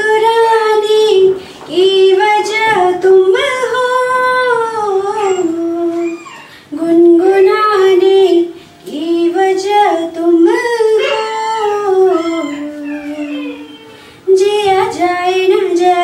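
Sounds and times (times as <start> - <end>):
woman singing unaccompanied: 0.0 - 16.0.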